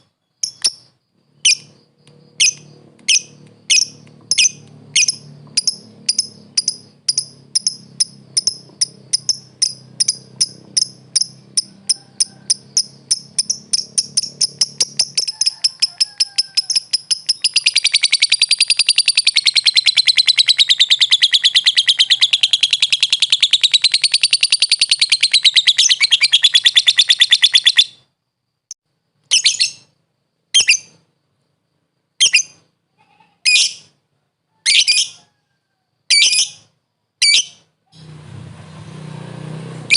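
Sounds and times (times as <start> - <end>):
lovebird chirping and trilling: 0.0 - 28.0, 29.3 - 30.0, 30.6 - 31.0, 32.2 - 32.7, 33.4 - 34.0, 34.6 - 35.2, 36.1 - 38.1.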